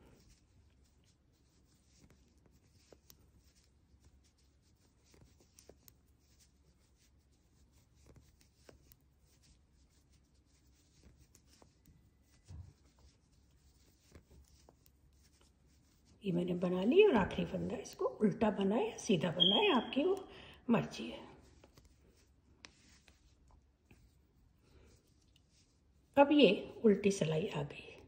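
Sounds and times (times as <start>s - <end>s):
knitting needle clicks and rustles: 0.0s - 20.3s, 21.0s - 26.5s.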